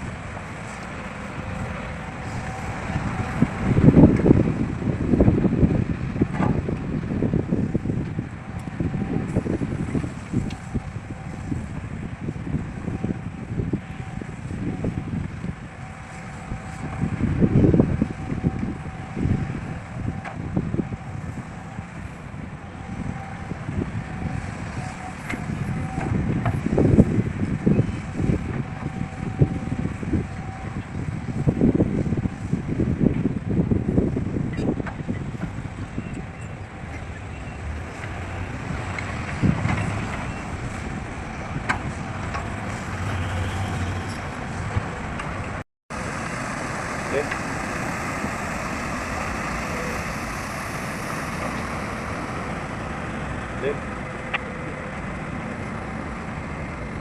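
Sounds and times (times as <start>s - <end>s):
diesel machinery rumbling: 0.0s - 57.0s
wind buffeting microphone: 0.0s - 57.0s.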